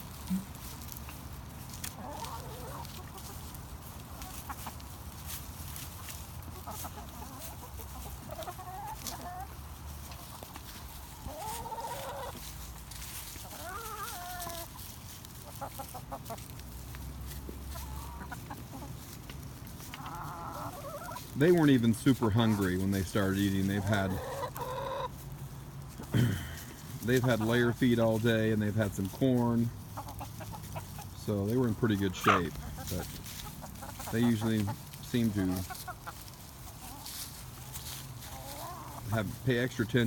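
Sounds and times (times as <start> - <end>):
hens clucking: 0.0 - 40.0.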